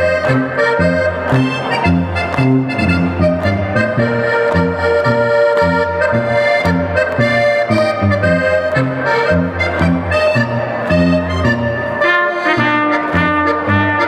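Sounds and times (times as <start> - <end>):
accordion melody: 0.0 - 14.0.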